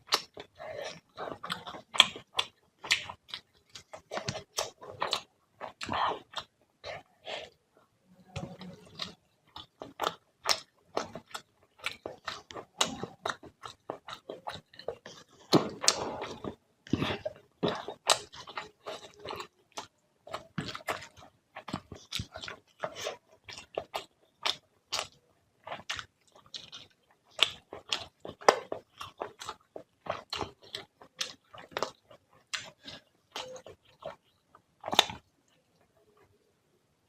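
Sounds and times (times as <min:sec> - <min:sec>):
person chewing with mouth smacks: 0:00.0 - 0:07.6, 0:08.3 - 0:35.3.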